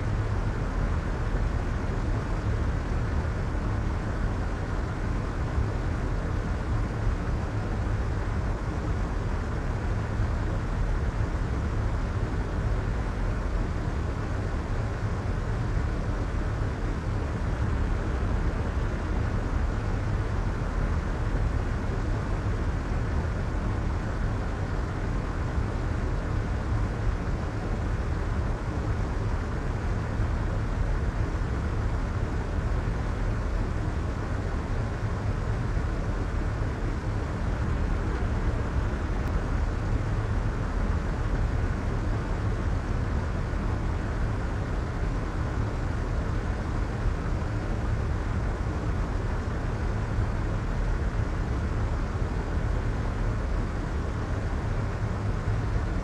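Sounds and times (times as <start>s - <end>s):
soft white noise: 0.0s - 56.0s.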